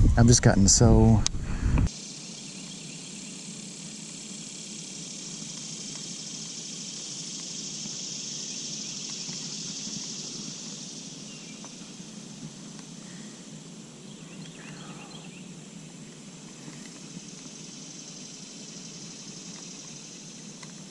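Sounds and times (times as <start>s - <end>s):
high-pitched insect buzz: 1.9s - 20.9s.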